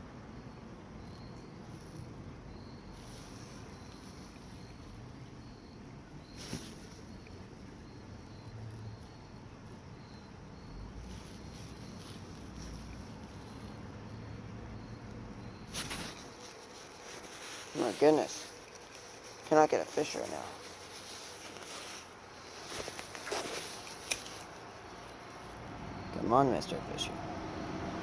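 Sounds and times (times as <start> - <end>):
background hiss: 0.0 - 28.0
cricket chirping: 0.0 - 28.0.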